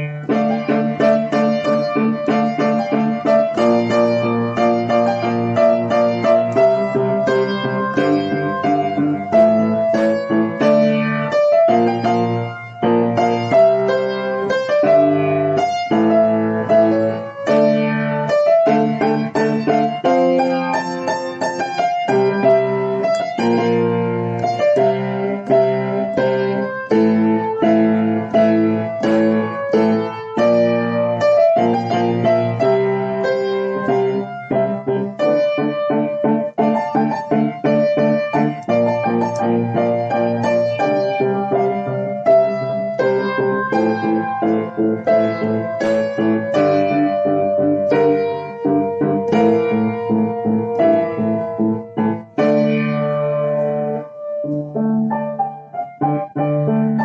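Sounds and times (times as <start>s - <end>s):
piano piece: 0.0s - 57.0s.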